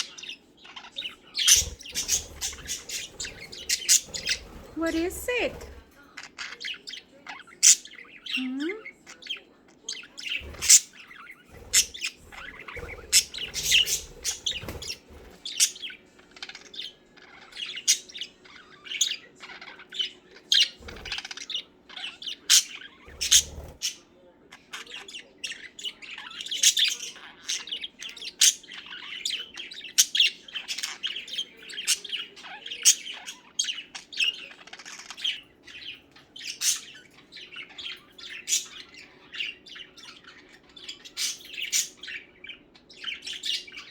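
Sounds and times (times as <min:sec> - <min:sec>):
budgies chirping and warbling: 0:00.0 - 0:43.9.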